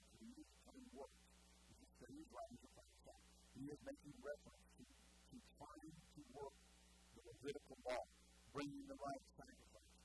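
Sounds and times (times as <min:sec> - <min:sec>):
man speaking quietly: 0:00.0 - 0:01.1, 0:01.7 - 0:06.6, 0:07.2 - 0:10.0
steady low hum: 0:00.0 - 0:10.0.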